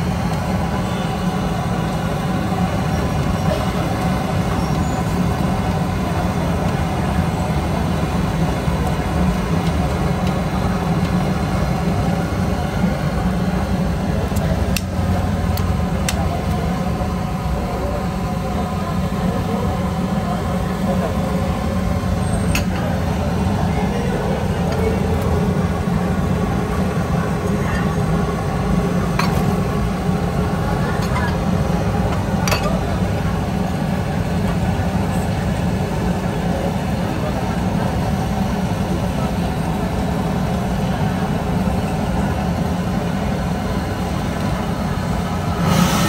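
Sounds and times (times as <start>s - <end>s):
gas burner roaring: 0.0s - 46.0s.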